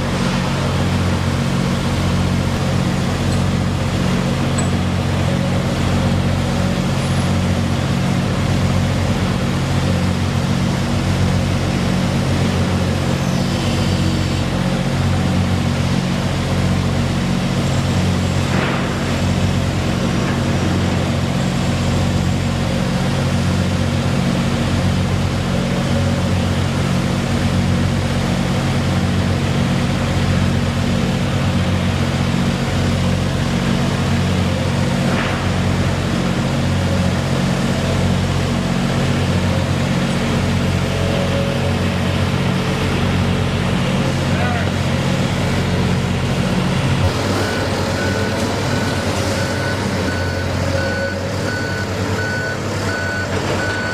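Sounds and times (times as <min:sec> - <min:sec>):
low pulsing machine drone: 0:00.0 - 0:53.9.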